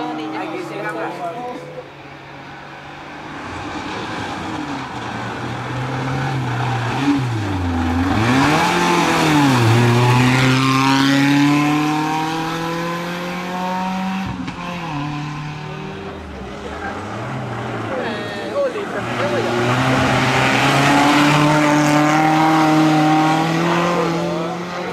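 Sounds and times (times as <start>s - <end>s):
rally car engine revving: 3.1s - 24.9s.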